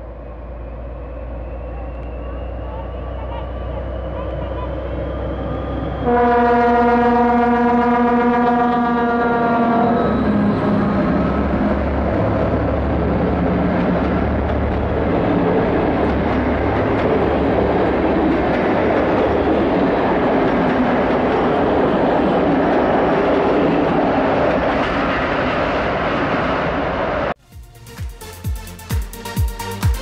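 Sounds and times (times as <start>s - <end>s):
train wheels rumbling on rail: 0.0s - 27.4s.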